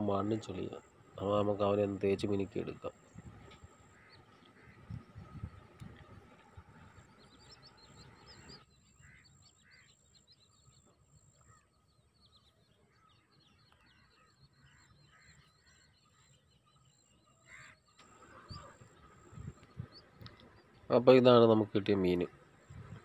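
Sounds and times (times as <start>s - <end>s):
low bird calls: 0.0s - 23.0s
small birds chirping: 0.0s - 23.0s.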